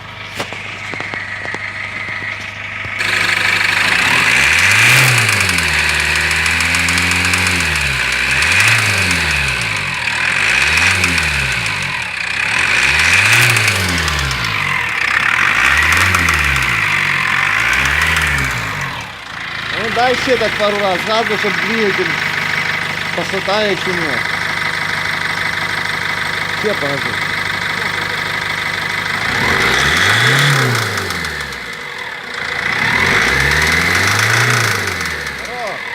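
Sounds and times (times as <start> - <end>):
diesel engine revving: 0.0 - 35.9
engine knocking: 0.0 - 35.9.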